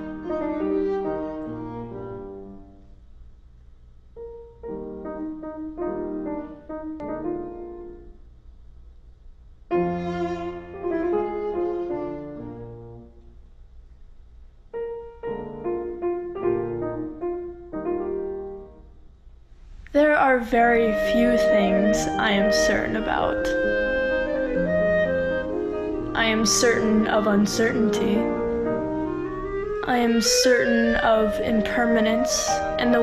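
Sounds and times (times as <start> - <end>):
slow piano music: 0.0 - 3.3, 3.9 - 8.9, 9.6 - 13.7, 14.4 - 33.0.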